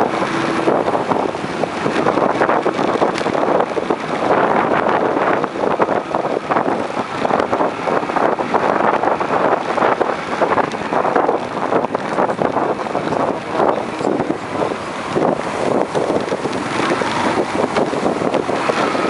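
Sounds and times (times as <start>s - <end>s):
motorcycle running: 0.0s - 19.0s
wind buffeting microphone: 0.0s - 19.0s.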